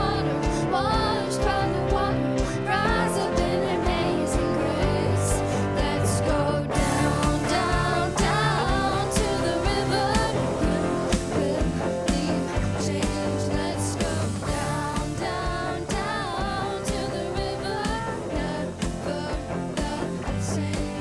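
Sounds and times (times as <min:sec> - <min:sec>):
guitar: 0:00.0 - 0:21.0
person singing: 0:00.0 - 0:21.0
steady drum beat: 0:00.0 - 0:21.0.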